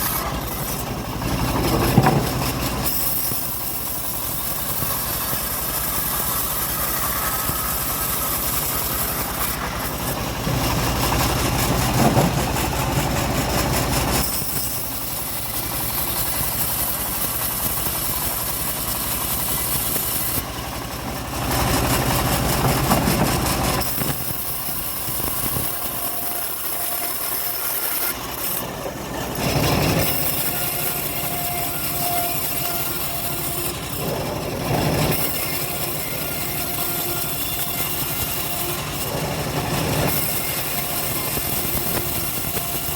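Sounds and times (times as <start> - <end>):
bandsaw mill sawing a log: 0.0 - 42.9.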